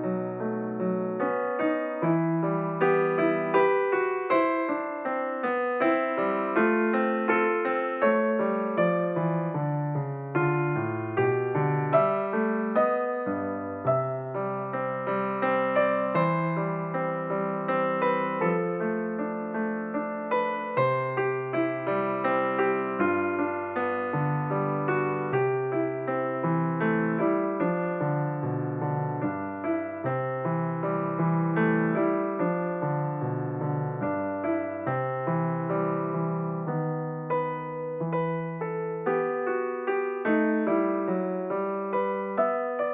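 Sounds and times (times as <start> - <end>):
slow piano melody: 0.0 - 42.9.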